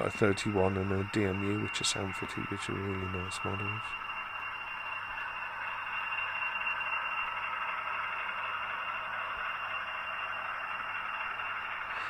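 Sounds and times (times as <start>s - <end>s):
faint low hum: 0.0s - 12.0s
model train whirring: 0.0s - 12.0s.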